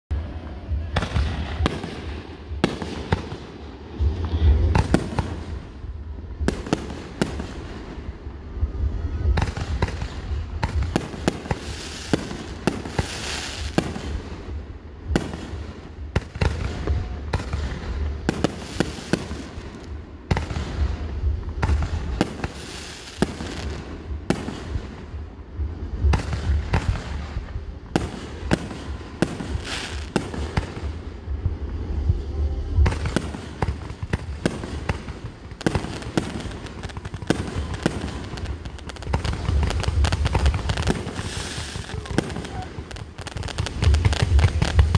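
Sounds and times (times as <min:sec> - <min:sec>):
fireworks bangs and pops: 0:00.1 - 0:08.3, 0:09.3 - 0:31.8, 0:32.8 - 0:44.9
steady low rumble: 0:00.1 - 0:44.9.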